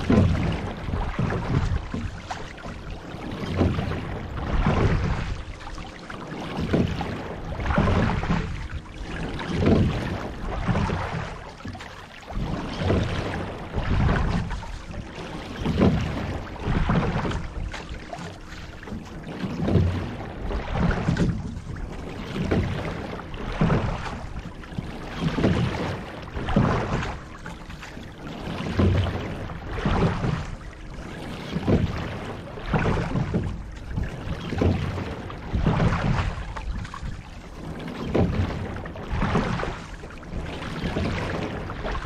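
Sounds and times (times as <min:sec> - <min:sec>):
water rushing along boat hull: 0:00.0 - 0:42.0.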